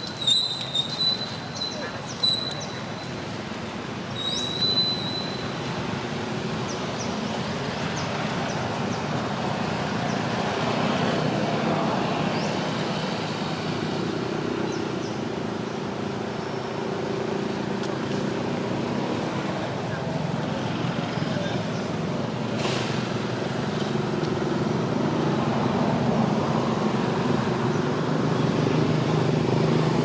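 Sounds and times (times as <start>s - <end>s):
passing traffic noise: 0.0s - 30.0s.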